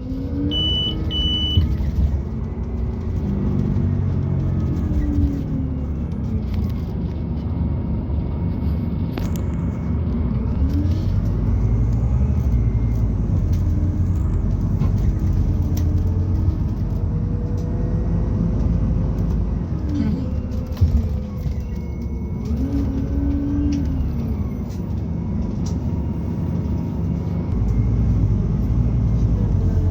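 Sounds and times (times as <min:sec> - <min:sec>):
bus engine low rumble: 0:00.0 - 0:29.9
drivetrain whine: 0:00.0 - 0:29.9.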